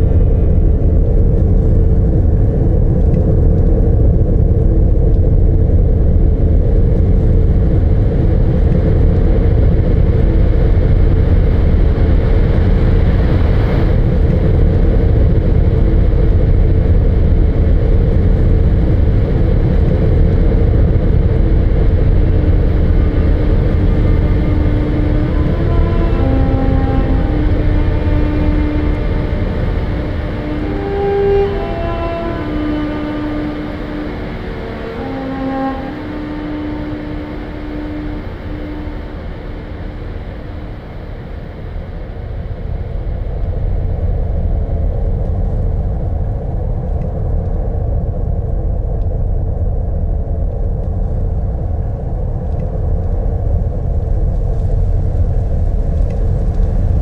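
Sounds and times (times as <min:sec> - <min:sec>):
loud low rumble: 0:00.0 - 0:57.0
rush of noise: 0:00.0 - 0:57.0.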